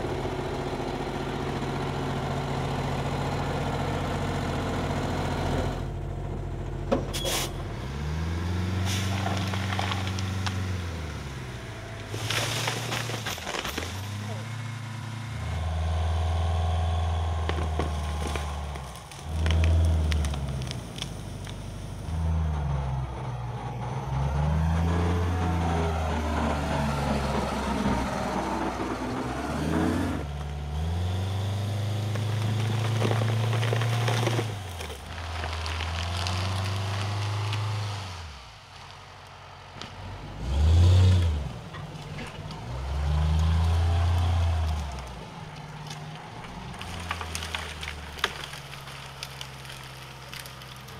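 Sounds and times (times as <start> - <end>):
diesel truck engine revving: 0.0 - 50.9
roots crackling and tearing: 8.5 - 14.7, 15.4 - 28.9, 29.5 - 50.9.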